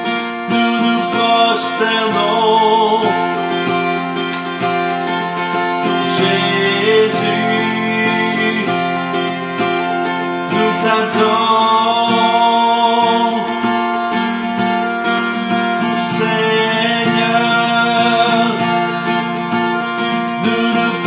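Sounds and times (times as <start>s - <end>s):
man singing: 0.0s - 4.1s, 5.4s - 14.0s, 15.5s - 21.0s
strummed acoustic guitar: 0.0s - 21.0s.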